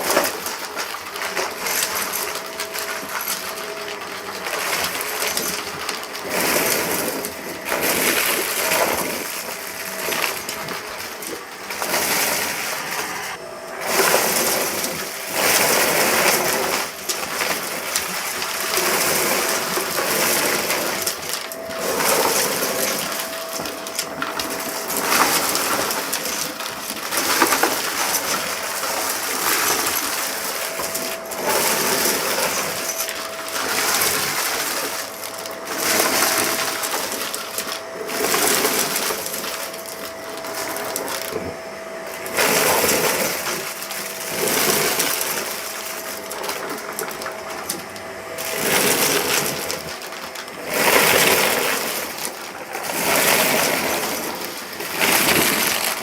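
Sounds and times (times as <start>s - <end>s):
debris crackling and rattling: 0.0s - 56.0s
vacuum cleaner running: 0.0s - 56.0s.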